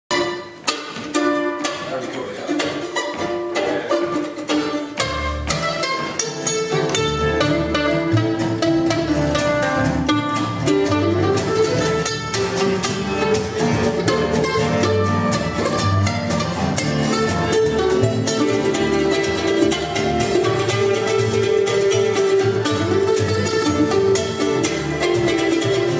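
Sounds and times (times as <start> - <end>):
bluegrass band playing: 0.1 - 25.9
deep upright bass notes: 0.1 - 25.9.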